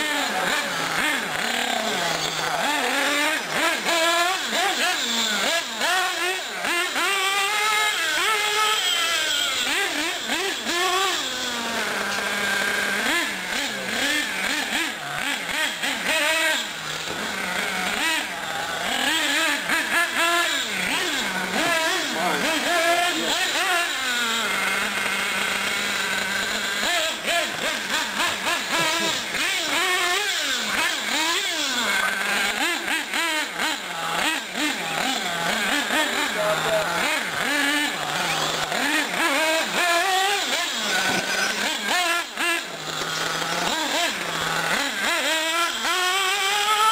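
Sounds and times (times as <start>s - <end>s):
small model car engine revving: 0.0s - 46.9s.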